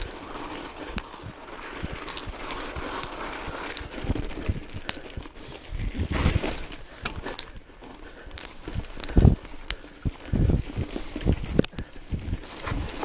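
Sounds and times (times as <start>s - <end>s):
bike clicks and rattles: 0.0s - 13.0s
bike tyres crunching on gravel: 0.0s - 13.0s.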